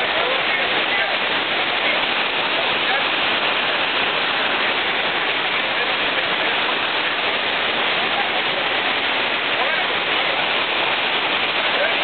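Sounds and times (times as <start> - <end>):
river rapids: 0.0 - 12.0
waterfall rushing: 0.0 - 12.0.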